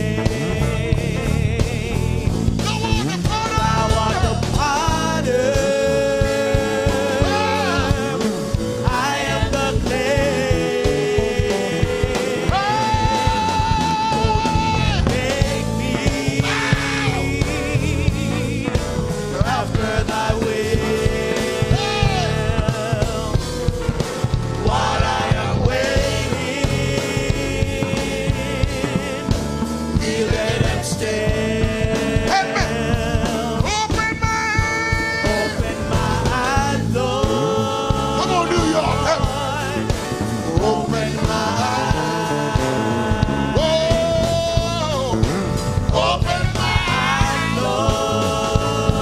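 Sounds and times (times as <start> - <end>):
band accompaniment: 0.0 - 49.0
voices singing with vibrato: 0.0 - 49.0.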